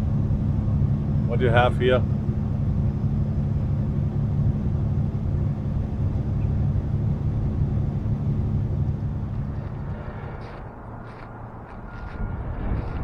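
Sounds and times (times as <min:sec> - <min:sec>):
diesel truck engine drone: 0:00.0 - 0:13.0
road noise: 0:00.0 - 0:13.0.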